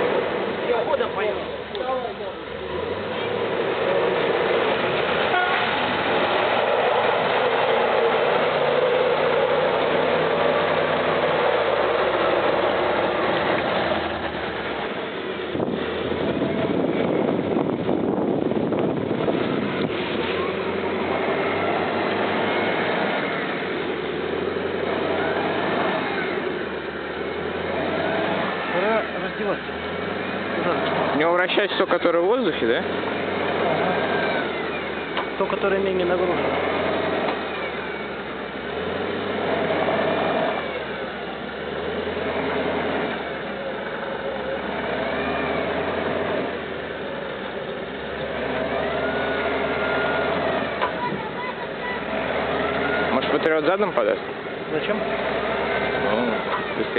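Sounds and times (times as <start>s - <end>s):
engine running at low revs: 0.0s - 56.9s.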